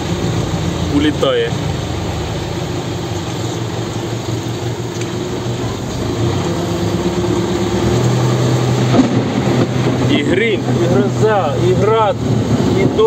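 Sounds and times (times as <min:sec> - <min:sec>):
diesel engine running: 0:00.0 - 0:13.0
heavy rain hissing: 0:00.0 - 0:13.0.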